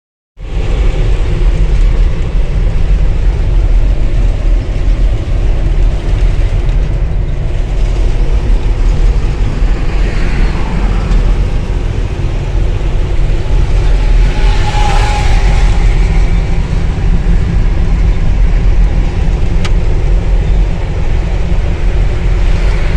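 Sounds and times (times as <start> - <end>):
diesel vehicle rumbling: 0.4 - 22.9.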